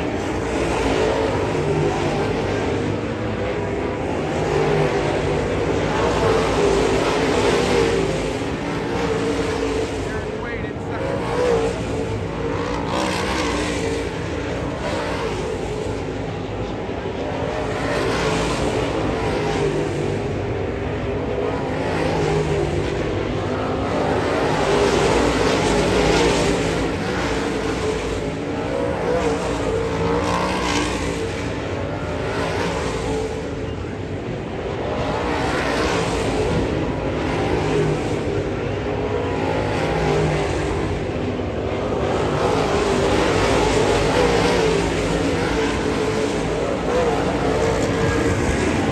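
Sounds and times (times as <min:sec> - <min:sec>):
race car engines passing: 0:00.0 - 0:48.9.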